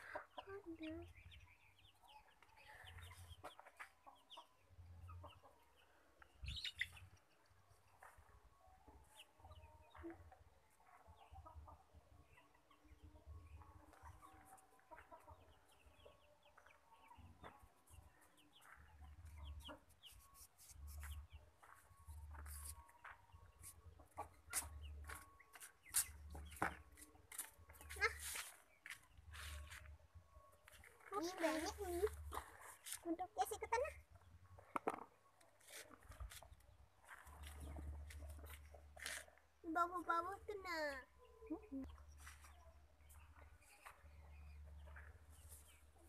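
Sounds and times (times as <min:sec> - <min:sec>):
chicken clucking: 0:00.0 - 0:40.3.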